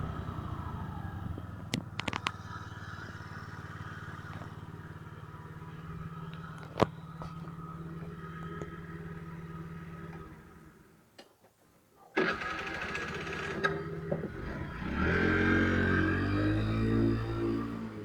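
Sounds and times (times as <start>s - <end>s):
scooter engine idling: 0.0s - 11.0s, 12.2s - 16.6s.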